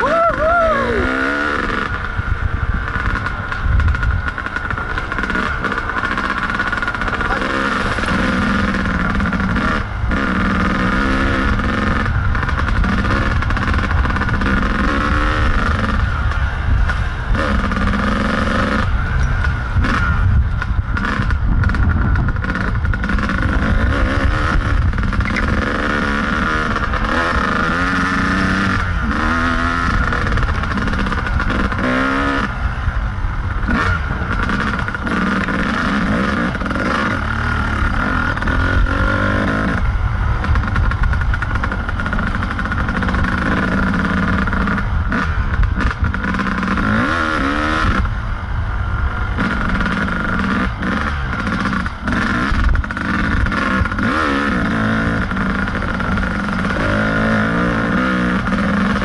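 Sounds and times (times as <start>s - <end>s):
dirt bike engine revving: 0.0s - 59.0s
wind rumble on microphone: 0.0s - 59.0s.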